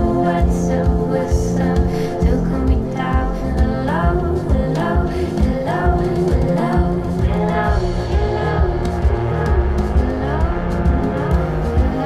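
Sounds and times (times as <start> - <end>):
instrumental accompaniment with low pulse: 0.0 - 12.0
woman singing: 0.0 - 12.0.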